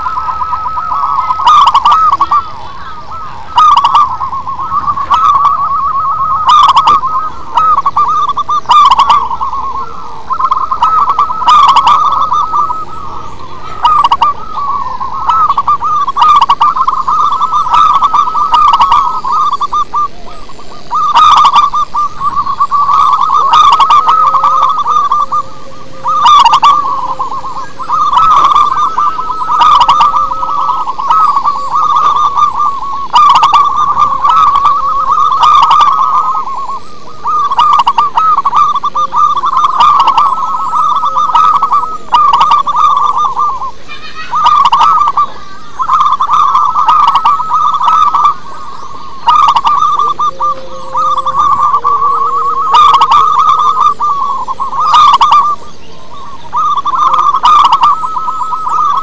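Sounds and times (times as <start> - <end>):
doves cooing trills: 0.0 - 59.0.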